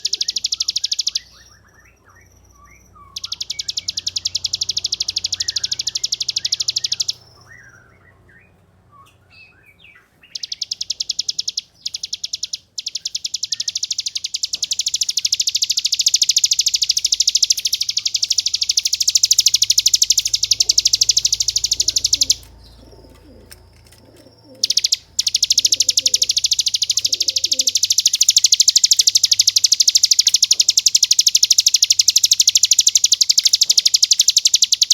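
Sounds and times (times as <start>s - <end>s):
bird rattling trills: 0.0s - 1.5s, 3.1s - 7.2s, 10.3s - 34.9s
soft bird chirps: 0.0s - 34.9s.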